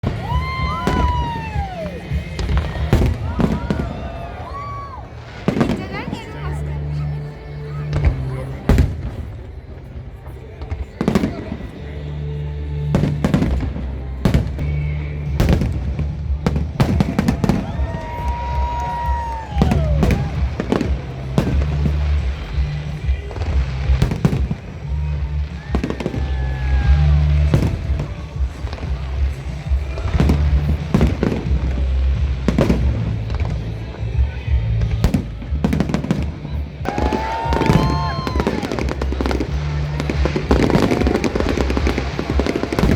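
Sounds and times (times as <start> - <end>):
fireworks bangs: 0.0 - 12.1, 12.7 - 42.9
low music: 0.0 - 42.9.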